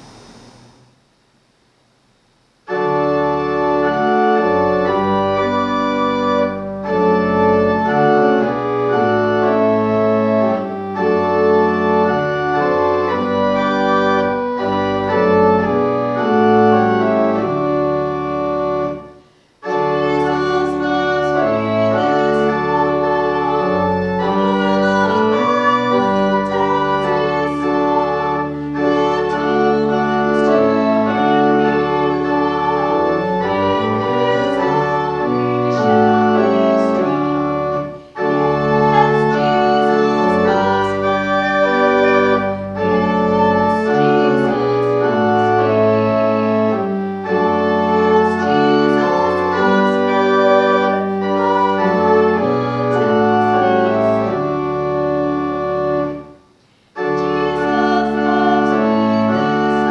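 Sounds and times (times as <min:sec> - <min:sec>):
pipe organ sustained chords: 0:02.6 - 0:59.9.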